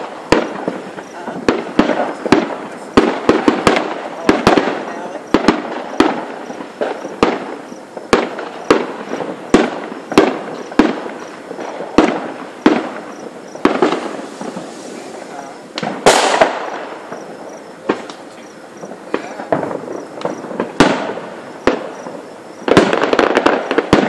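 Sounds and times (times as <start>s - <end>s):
fireworks exploding: 0.0s - 24.0s.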